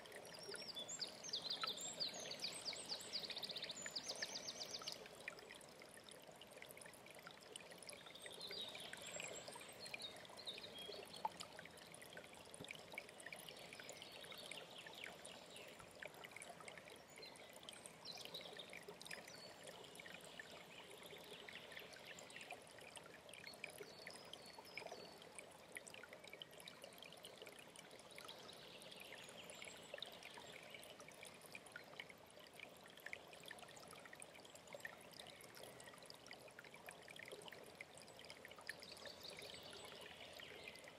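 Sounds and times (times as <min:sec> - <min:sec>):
mountain stream trickling and splashing: 0:00.0 - 0:40.9.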